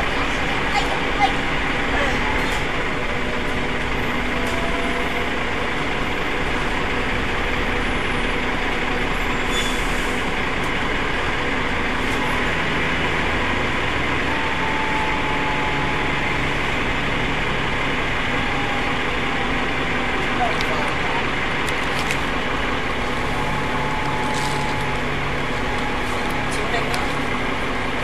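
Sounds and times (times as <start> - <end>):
diesel bus engine droning: 0.0 - 28.0.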